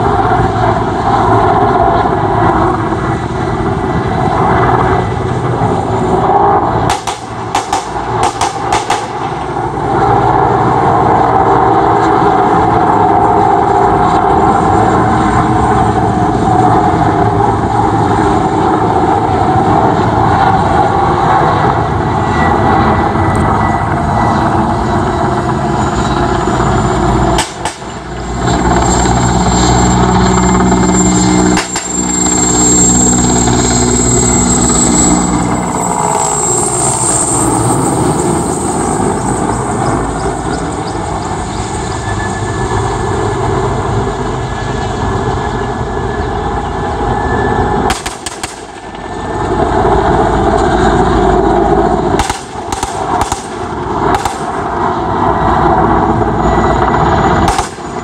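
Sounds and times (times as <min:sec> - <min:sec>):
helicopter flying overhead: 0:00.0 - 0:58.0.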